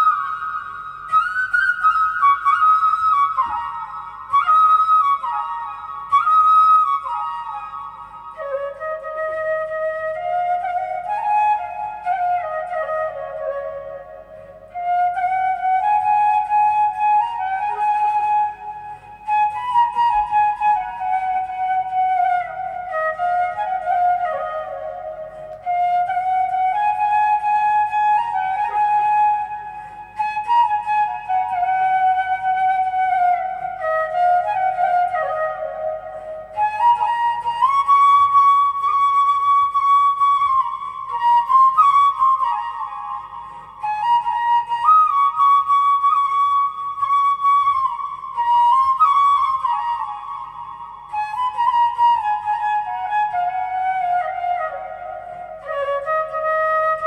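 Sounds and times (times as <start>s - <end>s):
flute melody: 0.0s - 57.0s.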